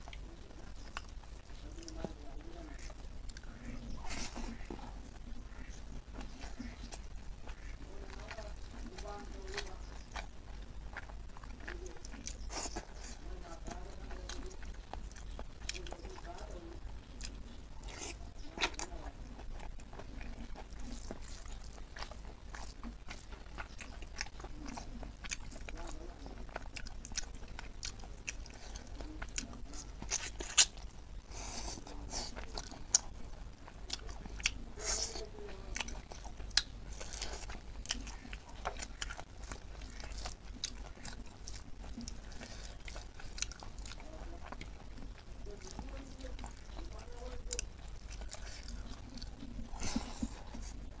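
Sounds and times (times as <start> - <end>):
chewing and lip smacking: 0.0 - 51.0.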